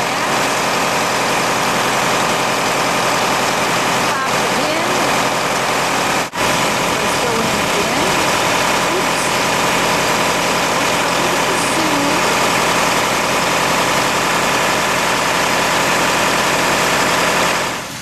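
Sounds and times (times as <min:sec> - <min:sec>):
grain auger running: 0:00.0 - 0:18.0
tractor running: 0:00.0 - 0:18.0.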